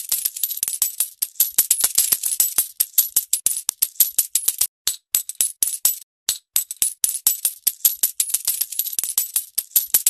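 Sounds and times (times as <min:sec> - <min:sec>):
metal coins clinking: 0:00.0 - 0:10.0.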